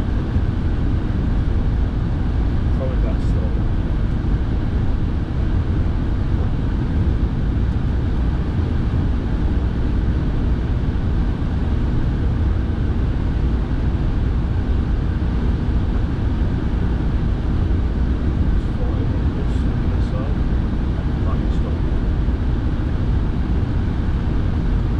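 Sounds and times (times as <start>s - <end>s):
car engine and tyre rumble: 0.0s - 24.9s
heater fan blowing: 0.0s - 24.9s.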